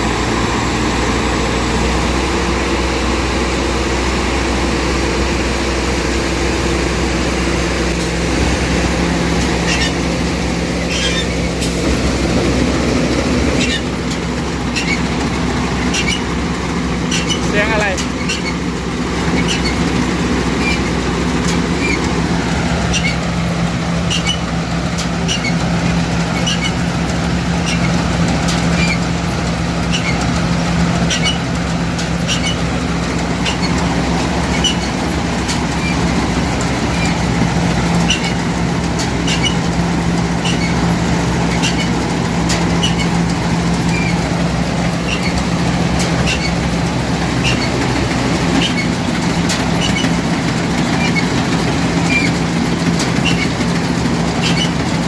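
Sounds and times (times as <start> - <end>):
combine harvester machinery hum: 0.0 - 55.0.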